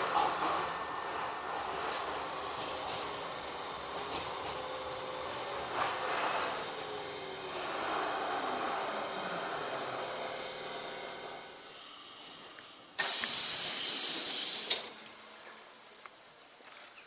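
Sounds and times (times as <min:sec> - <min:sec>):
metro train rumbling: 0:00.0 - 0:15.9
loud hiss of air: 0:01.1 - 0:15.0.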